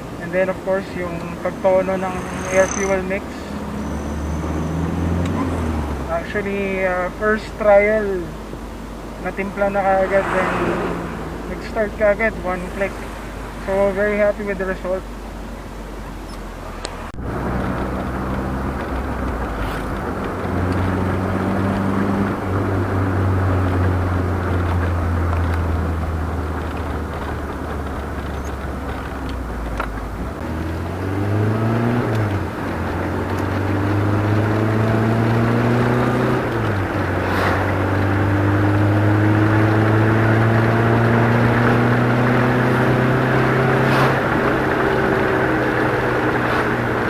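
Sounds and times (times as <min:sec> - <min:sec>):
car engine revving: 0:00.0 - 0:15.1, 0:16.5 - 0:47.0.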